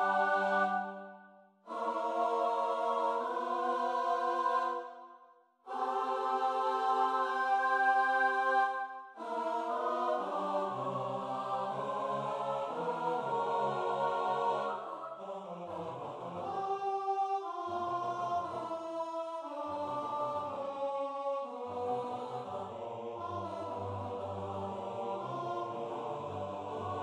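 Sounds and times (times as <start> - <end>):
a cappella choir singing: 0.0 - 27.0.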